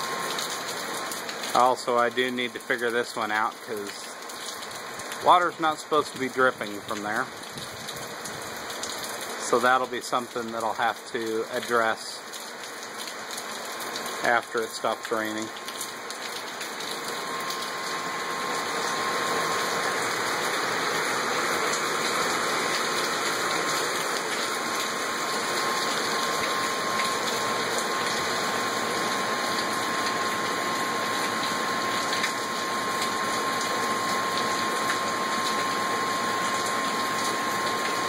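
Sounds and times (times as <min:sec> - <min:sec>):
heavy rain pouring: 0:00.0 - 0:38.0
water gushing from downspouts: 0:00.0 - 0:38.0.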